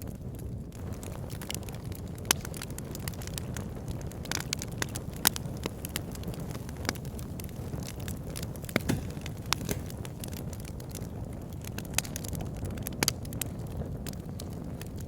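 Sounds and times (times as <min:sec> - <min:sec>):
fire rumbling in log burner: 0:00.0 - 0:15.0
logs crackling and popping: 0:00.0 - 0:15.0.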